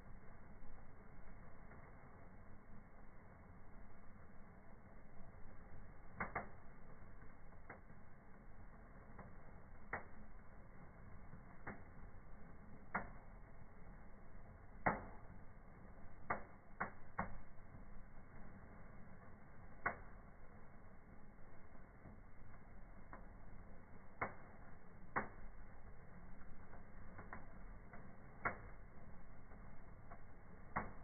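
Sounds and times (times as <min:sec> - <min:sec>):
faint steady low background: 0:00.0 - 0:31.0
fire crackling and popping: 0:00.0 - 0:31.0.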